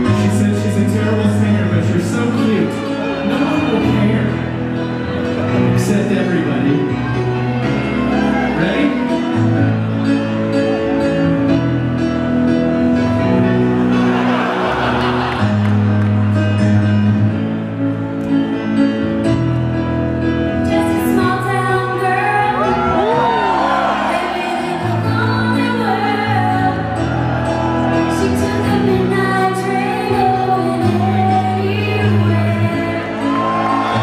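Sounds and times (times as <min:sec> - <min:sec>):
live pop-rock band: 0:00.0 - 0:34.0.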